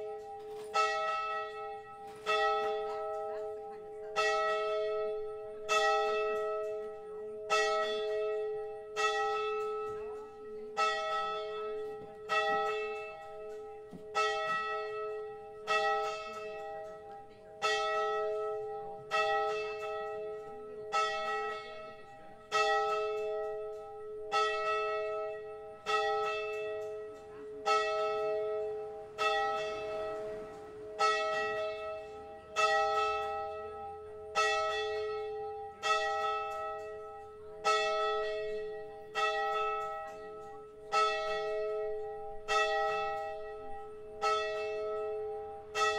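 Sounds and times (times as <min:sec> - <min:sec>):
church bell tolling: 0:00.0 - 0:45.9.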